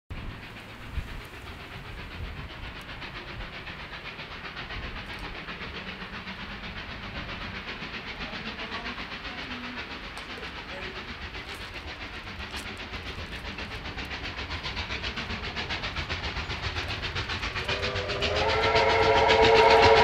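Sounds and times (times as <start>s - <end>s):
steam locomotive exhaust chuffs: 0.1s - 20.0s.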